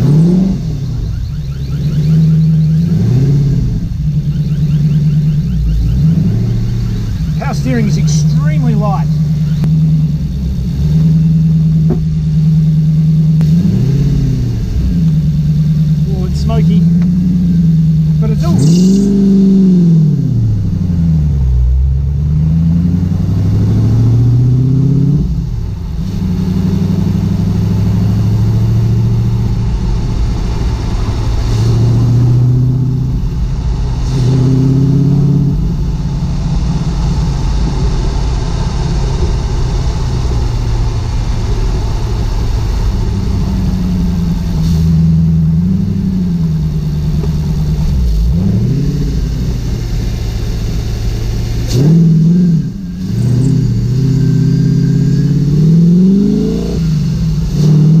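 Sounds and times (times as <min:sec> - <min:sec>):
loud car engine accelerating: 0:00.0 - 0:58.0.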